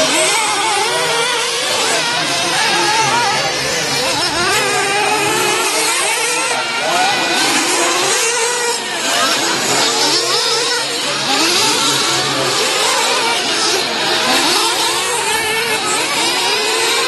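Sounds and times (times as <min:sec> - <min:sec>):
rc car engines revving: 0:00.0 - 0:17.0.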